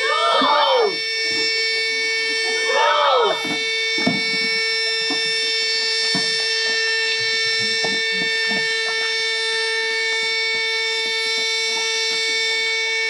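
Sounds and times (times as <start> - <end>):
steady siren-like tone: 0.0 - 13.0.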